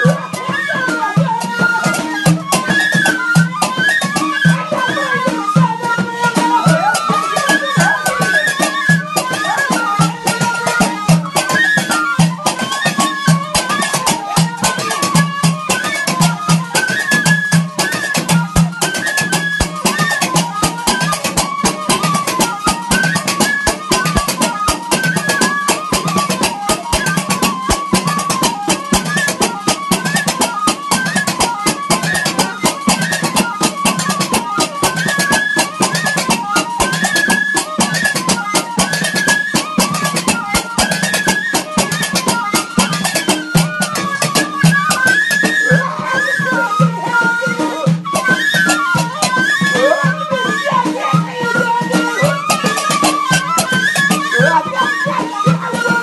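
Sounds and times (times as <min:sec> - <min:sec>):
end-blown flute melody: 0:00.0 - 0:56.0
fast steady drumming: 0:00.0 - 0:56.0.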